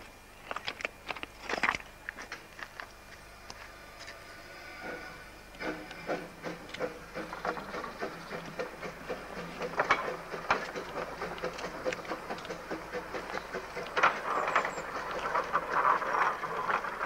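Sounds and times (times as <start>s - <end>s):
steam locomotive exhaust chuffs: 1.9s - 17.0s
faint steam hiss: 3.0s - 17.0s.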